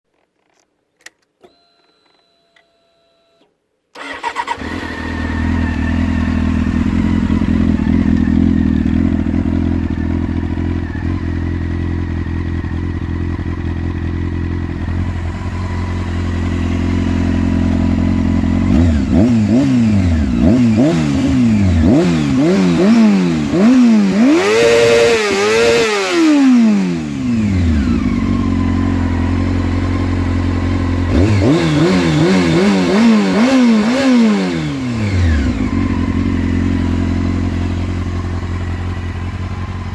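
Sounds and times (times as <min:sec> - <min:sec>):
motorcycle engine idling and revving: 0:04.0 - 0:39.9.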